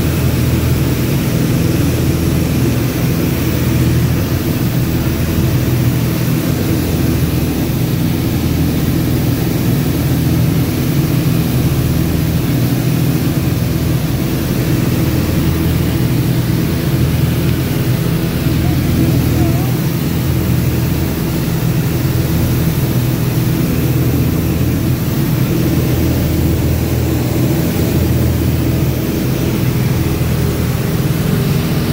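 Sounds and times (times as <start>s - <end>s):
light airplane engine drone: 0.0s - 31.9s.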